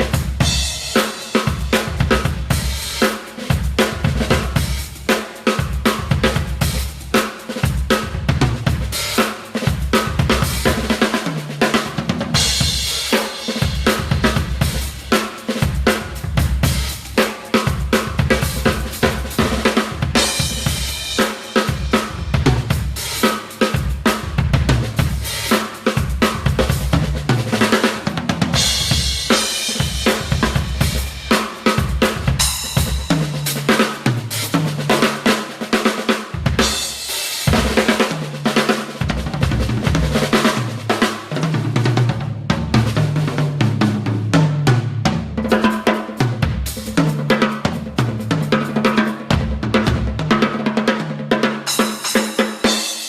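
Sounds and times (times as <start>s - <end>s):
snare and bass drum: 0.0s - 53.0s.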